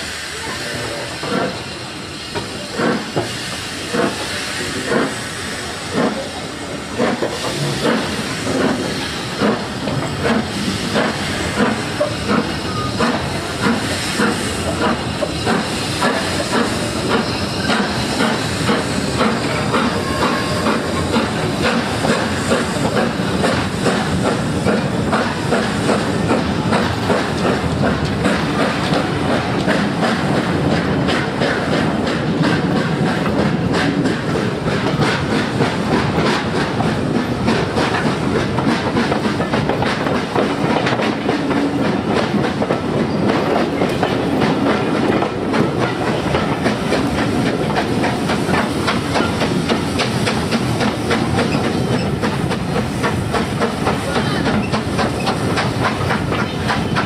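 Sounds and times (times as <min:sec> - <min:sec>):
train running noise rush: 0:00.0 - 0:57.0
train wheels clattering over rail joints: 0:02.3 - 0:57.0.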